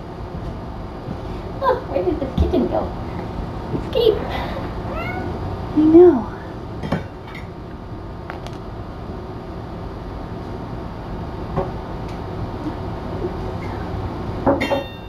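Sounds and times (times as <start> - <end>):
low rumbling room noise: 0.0 - 15.0.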